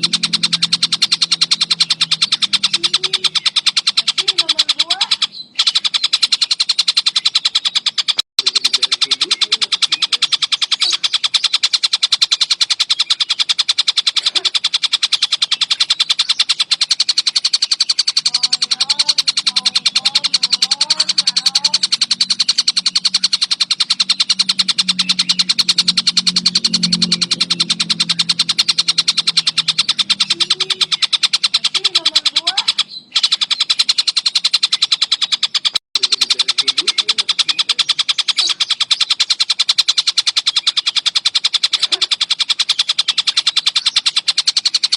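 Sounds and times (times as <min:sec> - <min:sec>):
kingfisher fast chattering calls: 0:00.0 - 0:44.9.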